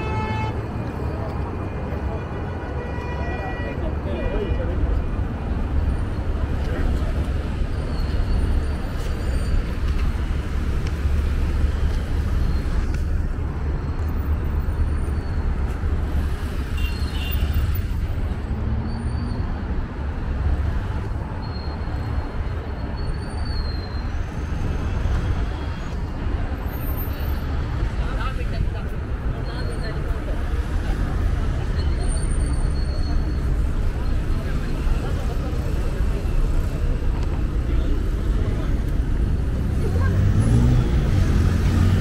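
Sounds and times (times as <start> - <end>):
passing vehicles rumble: 0.0 - 42.0.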